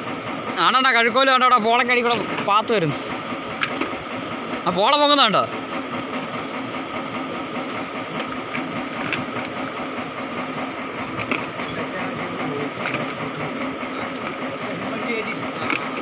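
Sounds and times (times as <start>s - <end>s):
pump motor droning: 0.0s - 16.0s.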